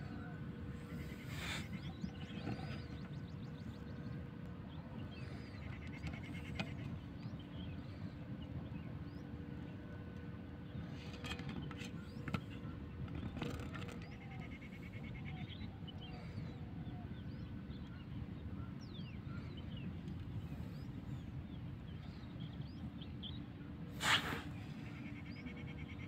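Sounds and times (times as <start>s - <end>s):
steady low background noise: 0.0s - 26.0s.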